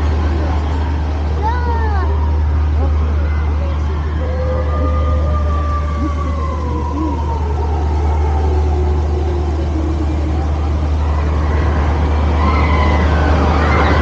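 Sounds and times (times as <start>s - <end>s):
riverboat rumble and rushing: 0.0s - 14.0s.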